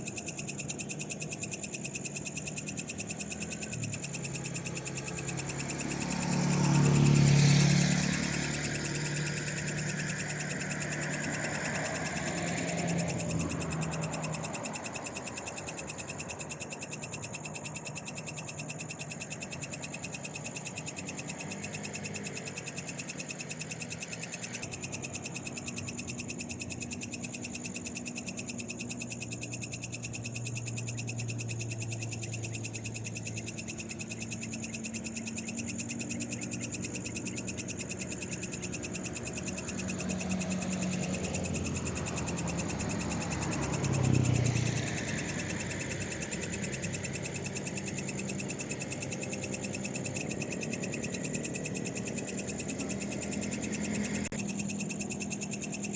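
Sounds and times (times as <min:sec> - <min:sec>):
frogs calling: 0:00.0 - 0:55.9
passing vehicle: 0:03.0 - 0:55.9.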